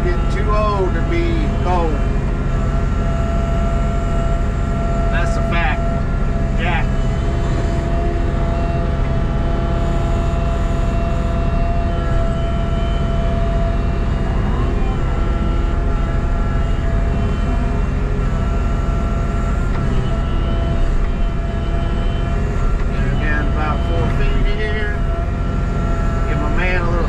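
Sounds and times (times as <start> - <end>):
excavator diesel engine running: 0.0 - 27.0
steady tone: 0.0 - 27.0.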